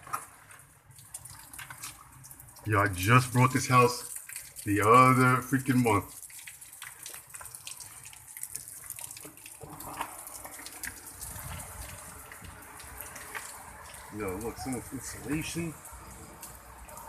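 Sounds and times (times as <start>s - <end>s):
water running and dripping: 0.0s - 17.0s.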